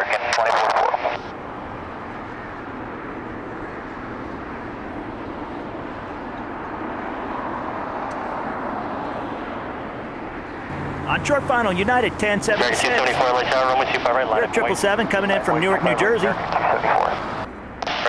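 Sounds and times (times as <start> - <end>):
distant jet airliner engines: 0.0 - 18.0.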